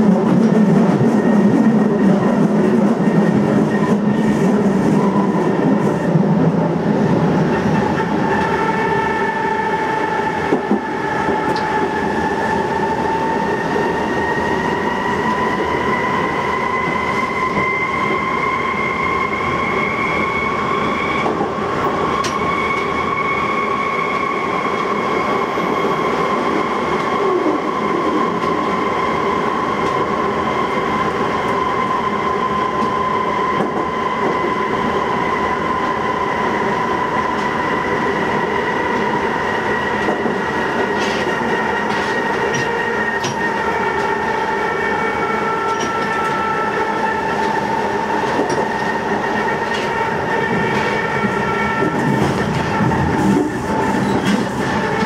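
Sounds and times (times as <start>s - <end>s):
train high whine: 0.0s - 55.0s
train wheels rumbling on rail: 0.0s - 55.0s.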